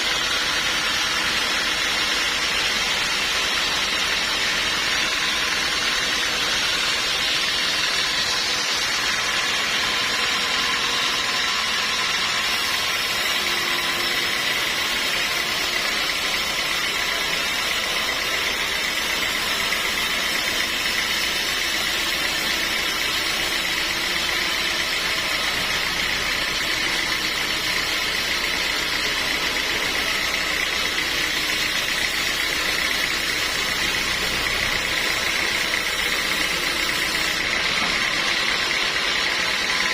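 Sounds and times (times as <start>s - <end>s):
sawmill machinery whining: 0.0s - 39.9s.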